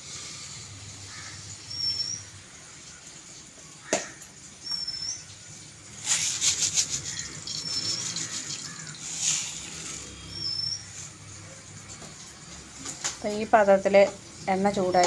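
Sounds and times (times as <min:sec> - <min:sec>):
seeds sizzling in oil: 0:00.0 - 0:15.0.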